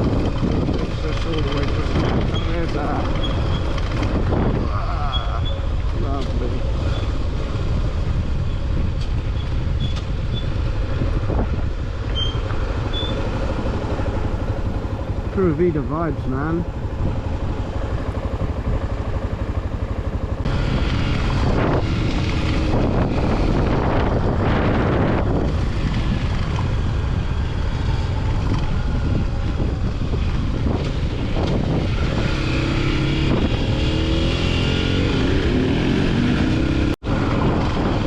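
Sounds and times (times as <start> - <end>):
wind noise on microphone: 0.0 - 14.4, 20.4 - 38.0
motorcycle engine running: 0.0 - 38.0.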